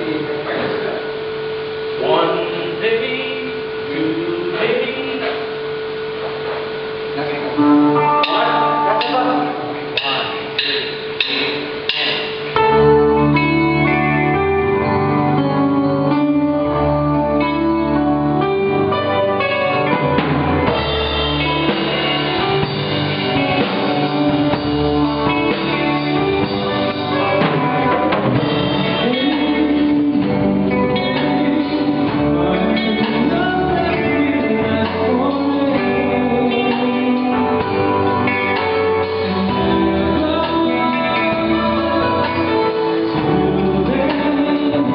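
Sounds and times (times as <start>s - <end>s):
live band with guitars and drums: 0.0s - 44.9s.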